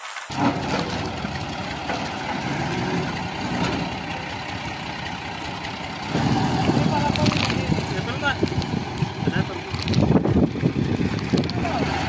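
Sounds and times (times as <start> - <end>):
tractor diesel engine idling: 0.3 - 12.0.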